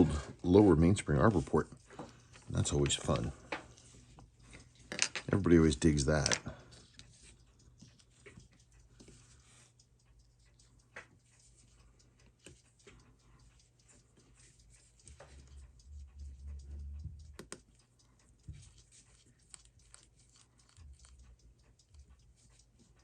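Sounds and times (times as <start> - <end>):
metal tweezers clicking and tapping: 0.1 - 23.0.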